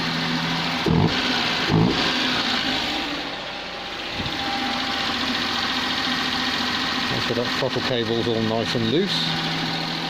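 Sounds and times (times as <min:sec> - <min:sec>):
small car engine idling: 0:00.0 - 0:10.0.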